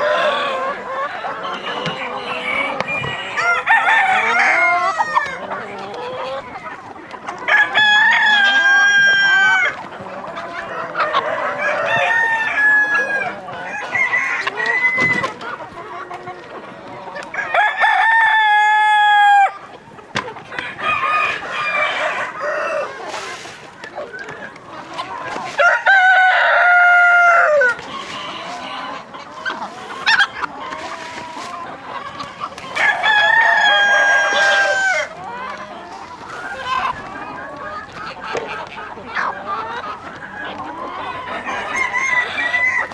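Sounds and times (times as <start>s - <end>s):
hens clucking: 0.0s - 42.9s
roosters crowing: 0.0s - 42.9s.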